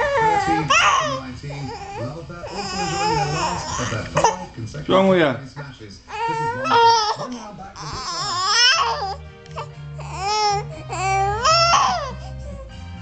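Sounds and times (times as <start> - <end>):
baby crying: 0.0 - 4.5, 6.1 - 12.4.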